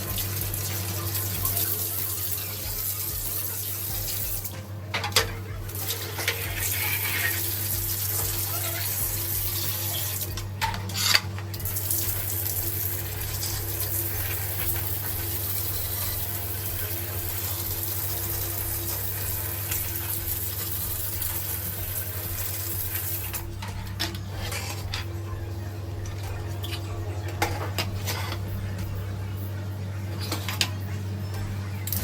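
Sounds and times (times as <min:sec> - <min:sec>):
steady low hum: 0:00.0 - 0:32.0
water spraying on metal parts: 0:00.0 - 0:32.0.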